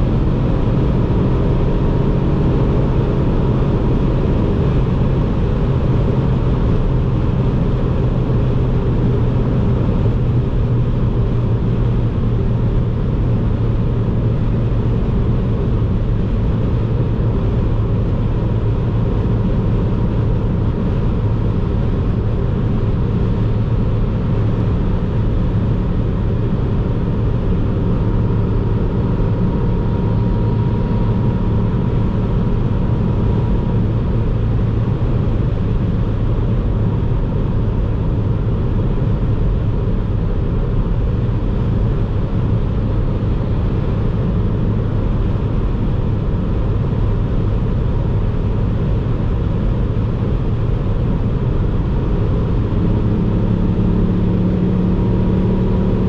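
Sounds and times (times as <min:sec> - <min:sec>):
car engine drone: 0:00.0 - 0:56.0
road rumble: 0:00.0 - 0:56.0.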